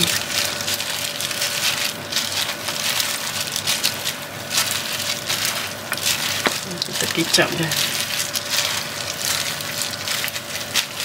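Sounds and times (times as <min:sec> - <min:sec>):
gloved hand squelching meat: 0:00.0 - 0:11.0.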